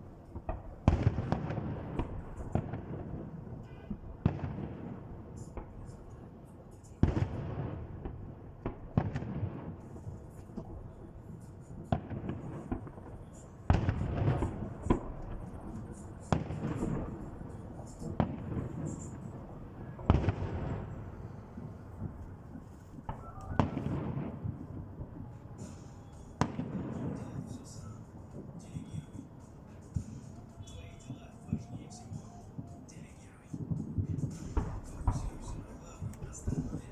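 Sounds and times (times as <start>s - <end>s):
firework shells booming: 0.0s - 6.1s, 7.0s - 11.0s, 11.7s - 36.9s
firework crackling: 0.0s - 36.9s.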